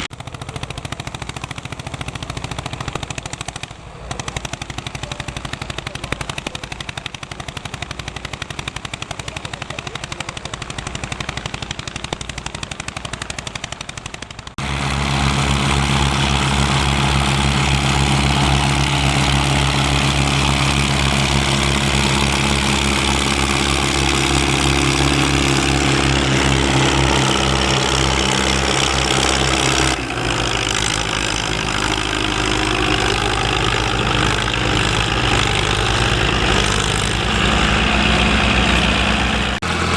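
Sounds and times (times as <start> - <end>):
tractor engine running: 0.0 - 39.9
tractor exhaust pops: 0.0 - 39.9.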